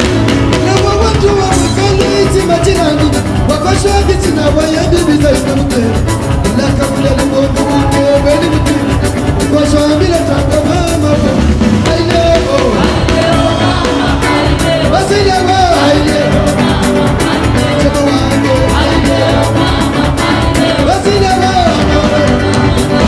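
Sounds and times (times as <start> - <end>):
fast percussion beat: 0.0 - 23.0
lead singer: 0.0 - 23.0
live band music: 0.0 - 23.0.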